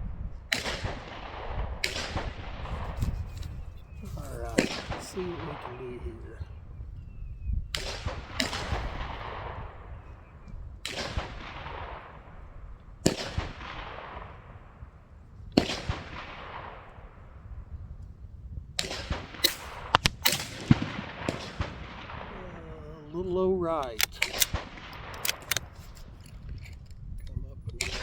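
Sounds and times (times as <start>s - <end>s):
gunshots with echoing tail: 0.0s - 6.7s, 7.7s - 17.8s, 18.8s - 27.1s, 27.8s - 28.0s.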